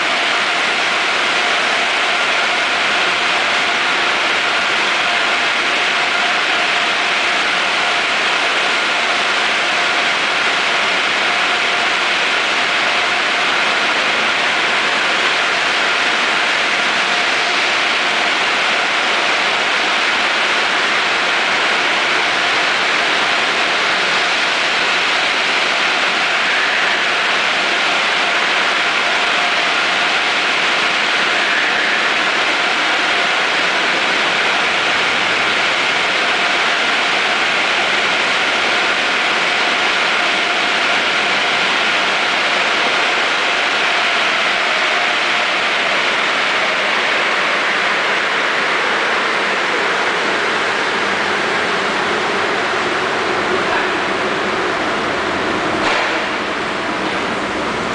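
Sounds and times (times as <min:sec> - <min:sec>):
car wash water spray: 0:00.0 - 0:57.9.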